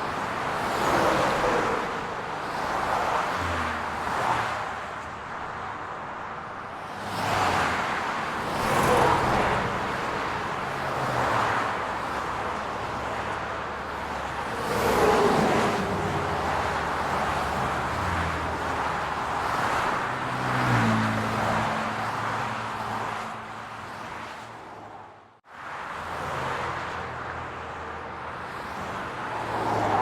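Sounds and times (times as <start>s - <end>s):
hum of car engines: 0.0s - 30.0s
vehicles passing by: 0.0s - 30.0s.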